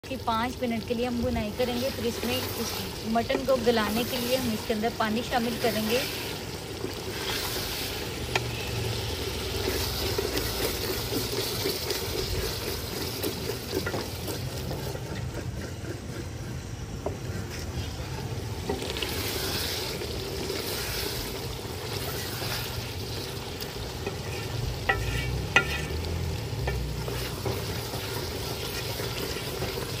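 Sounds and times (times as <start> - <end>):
meat sizzling in a pot: 0.0 - 30.0
wooden spatula scraping pot: 1.1 - 30.0.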